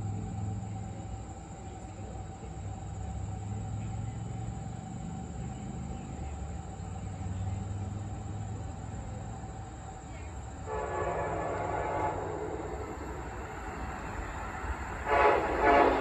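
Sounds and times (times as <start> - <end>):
faint steady whine: 0.0 - 16.0
train rumbling on rails: 0.0 - 16.0.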